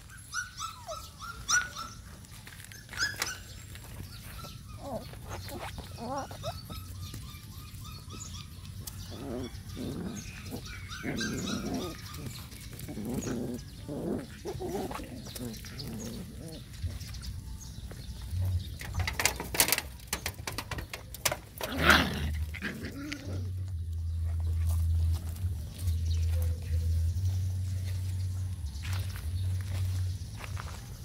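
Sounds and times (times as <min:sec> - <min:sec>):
puppies whining and squeaking: 0:00.0 - 0:27.4.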